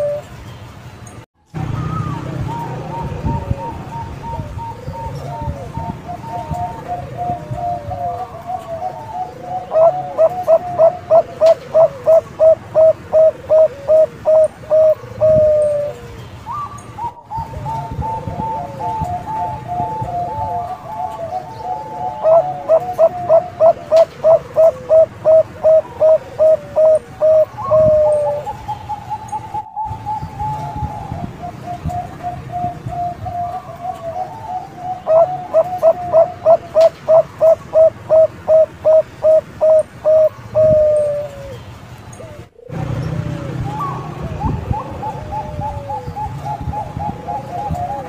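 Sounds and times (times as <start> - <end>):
dove cooing: 0.0 - 0.3, 1.6 - 48.0.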